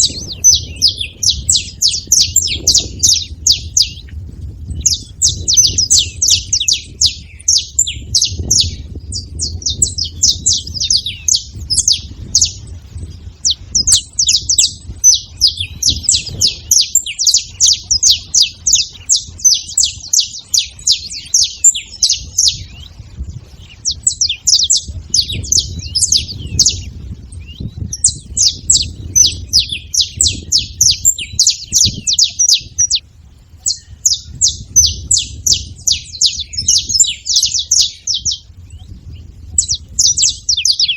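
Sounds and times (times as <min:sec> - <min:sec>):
low rumble: 0:00.0 - 0:37.0
finches chirping: 0:00.0 - 0:40.9.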